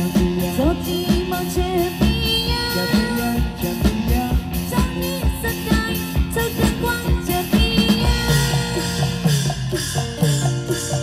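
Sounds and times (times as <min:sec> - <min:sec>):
music with drum beats: 0:00.0 - 0:11.0.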